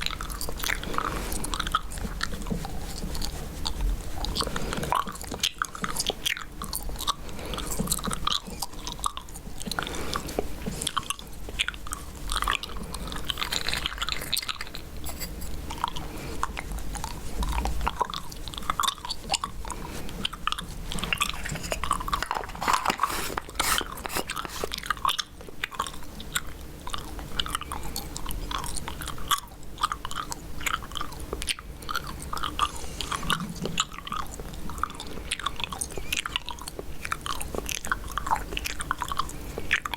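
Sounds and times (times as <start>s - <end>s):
gum chewing close up: 0.0s - 39.9s.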